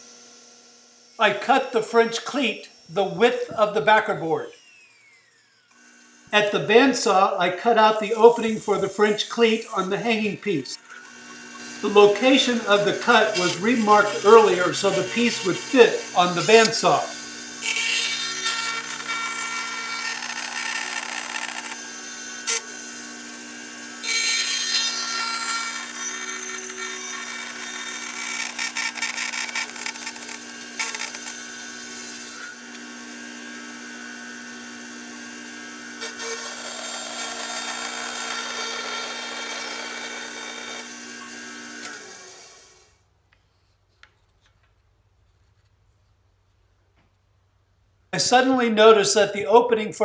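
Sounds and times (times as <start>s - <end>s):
bandsaw motor hum: 0.0s - 43.0s
bandsaw blade cutting wood: 1.0s - 43.0s.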